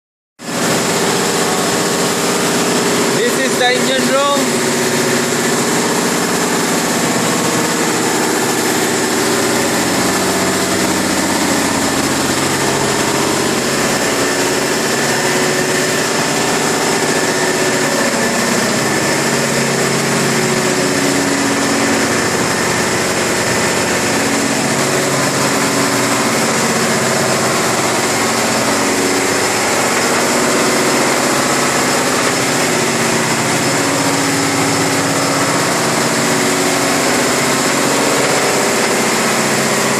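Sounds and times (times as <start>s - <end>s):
engine-room machinery droning: 0.4s - 39.9s.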